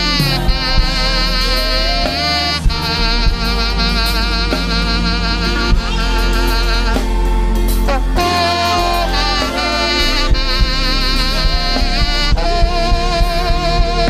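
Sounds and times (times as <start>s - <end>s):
bass: 0.0s - 14.0s
drums: 0.0s - 14.0s
wavering lead melody: 0.0s - 14.0s.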